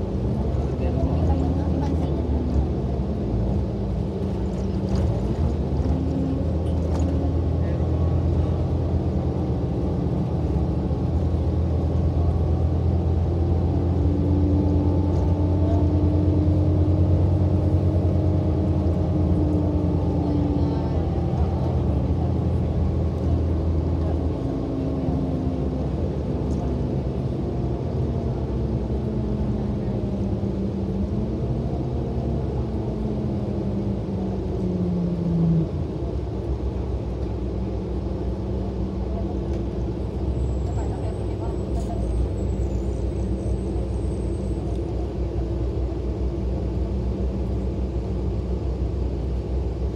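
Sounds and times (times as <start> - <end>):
bus engine humming: 0.0 - 49.9
road noise: 0.0 - 49.9.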